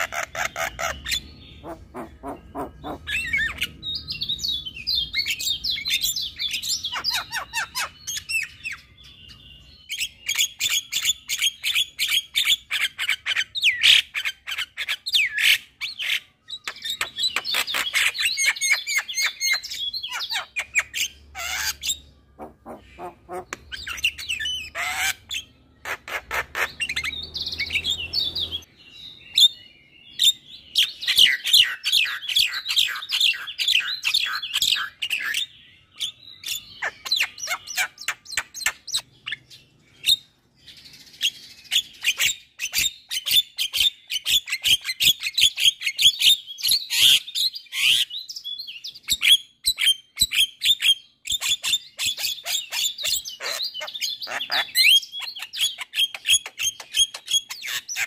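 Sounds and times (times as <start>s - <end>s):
bird chattering song: 0.0s - 58.0s.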